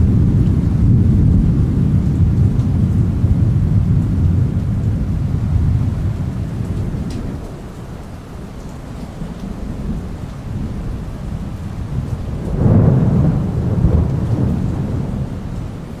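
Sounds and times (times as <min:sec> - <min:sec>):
rain hissing: 0:00.0 - 0:16.0
thunder rumbling: 0:00.0 - 0:16.0.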